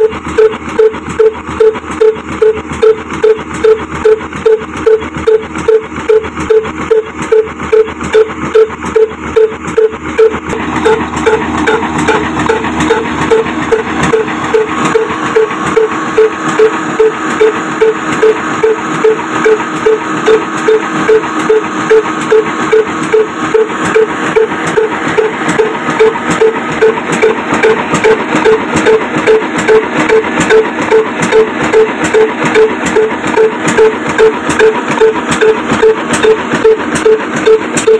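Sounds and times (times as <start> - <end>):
mechanical clatter: 0.0 - 37.9
stationary engine beating: 0.0 - 37.9.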